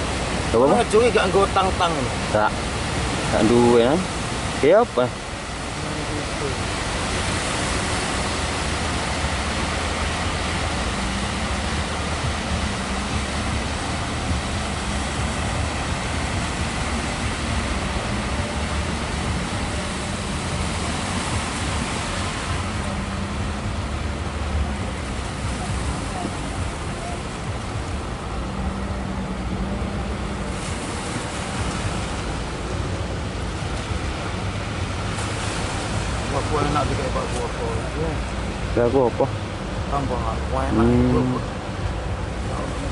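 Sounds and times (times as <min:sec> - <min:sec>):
heavy sea surf breaking: 0:00.0 - 0:42.9
wind on microphone: 0:02.1 - 0:40.0.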